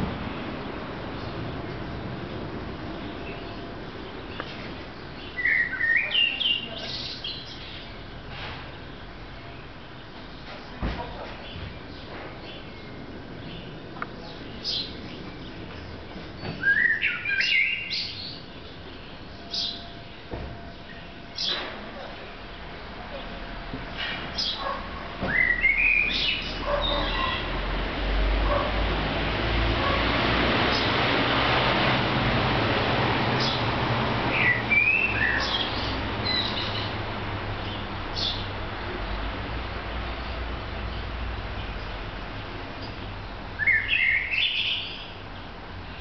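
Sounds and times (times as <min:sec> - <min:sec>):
songbird singing: 0:00.2 - 0:28.8, 0:30.6 - 0:46.0
birds chirping: 0:00.3 - 0:28.8, 0:30.7 - 0:31.8, 0:33.2 - 0:46.0.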